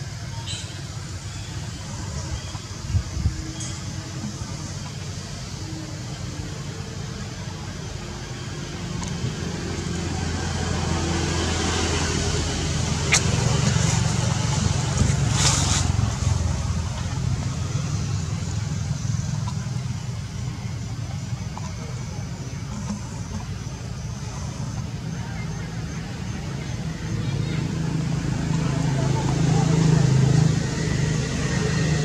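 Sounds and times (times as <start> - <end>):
passing vehicle engine hum: 0.0 - 32.0.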